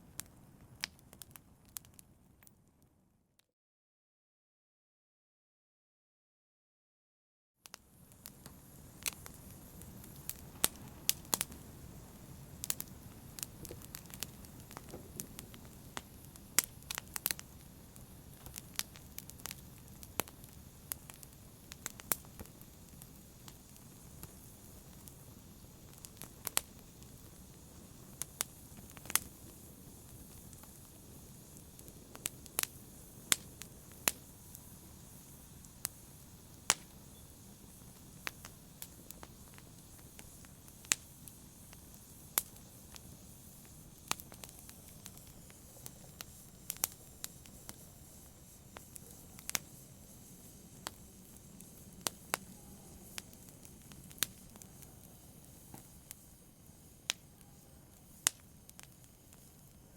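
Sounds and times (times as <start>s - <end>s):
wood fire crackling: 0.0s - 2.5s, 7.7s - 59.9s
low rumble of flames: 7.8s - 59.9s.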